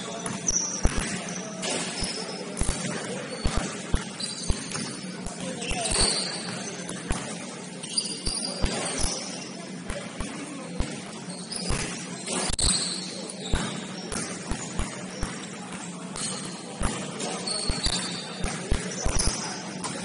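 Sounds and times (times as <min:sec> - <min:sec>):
sneakers squeaking on floor: 0:00.0 - 0:20.0
basketball bouncing: 0:00.2 - 0:07.6, 0:08.3 - 0:09.3, 0:09.9 - 0:20.0.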